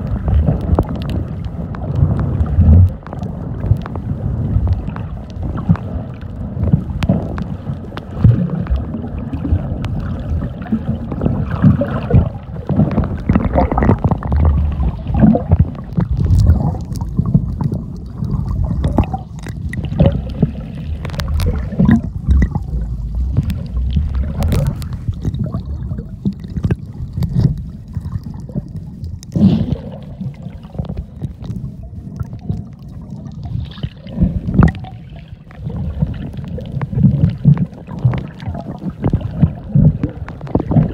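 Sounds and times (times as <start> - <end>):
low rumble: 0.0 - 40.9
water sloshing and gurgling: 0.0 - 40.9.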